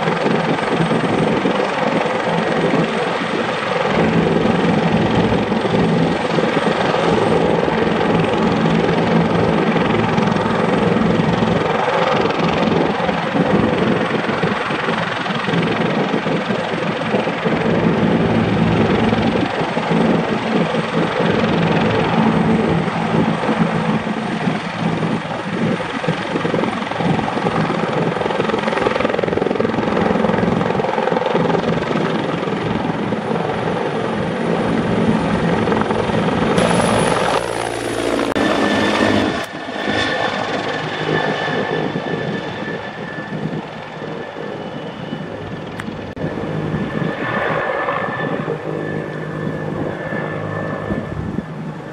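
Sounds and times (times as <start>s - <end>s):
helicopter engine whine: 0.0s - 51.9s
helicopter rotor chopping: 0.0s - 51.9s.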